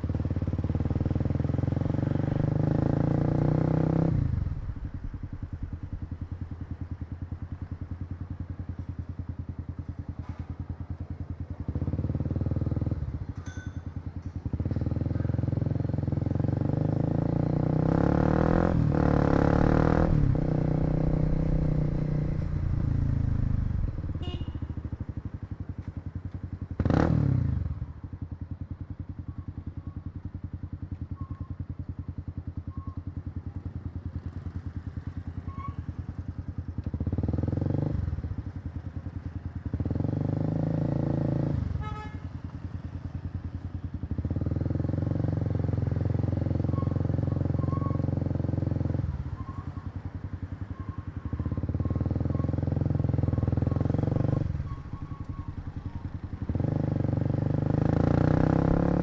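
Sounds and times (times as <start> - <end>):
motorcycle engine accelerating: 0.0 - 13.4, 14.4 - 59.0.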